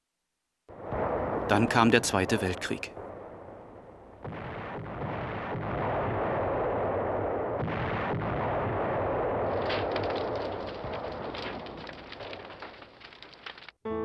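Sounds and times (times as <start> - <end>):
artillery fire and explosions: 0.7 - 13.2
sharp crackling: 0.7 - 13.8.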